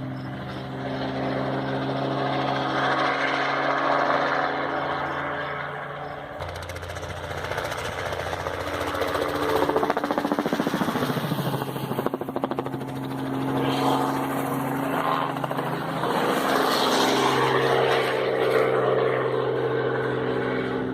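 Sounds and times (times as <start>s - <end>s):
helicopter engine drone: 0.0s - 20.9s
helicopter rotor chop: 0.0s - 20.9s.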